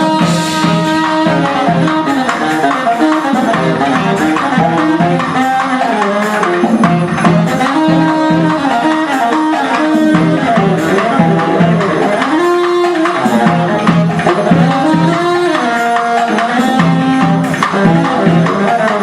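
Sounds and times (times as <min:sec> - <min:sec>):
live band playing: 0:00.0 - 0:19.0
percussion strokes: 0:00.0 - 0:19.0.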